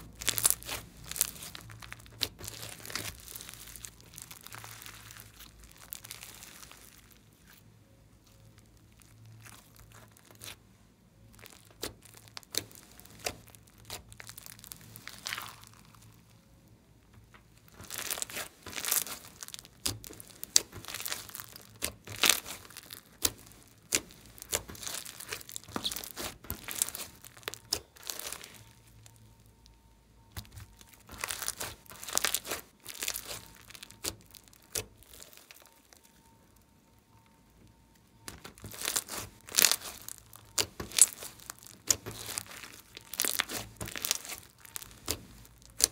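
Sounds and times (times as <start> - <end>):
hands squishing slime: 0.0 - 10.6, 11.3 - 16.3, 17.2 - 29.4, 30.2 - 36.1, 38.2 - 45.9
slime crackles and pops: 0.0 - 10.6, 11.2 - 16.5, 17.1 - 45.9.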